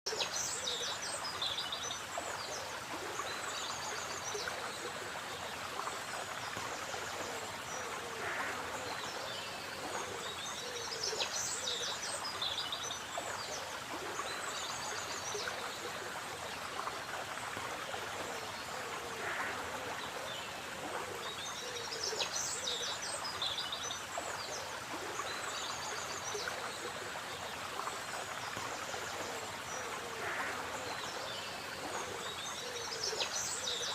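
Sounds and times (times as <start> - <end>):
stream running: 0.1 - 33.9.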